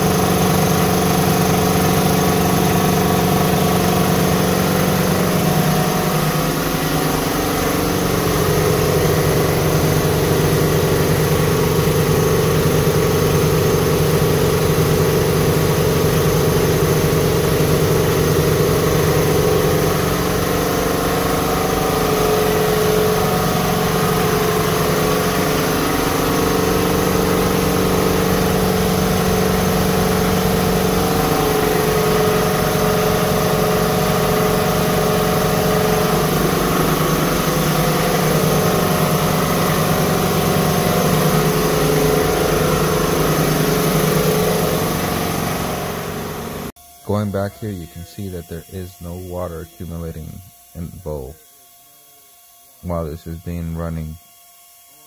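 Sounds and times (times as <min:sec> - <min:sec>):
air compressors running: 0:00.0 - 0:51.4, 0:52.8 - 0:54.2.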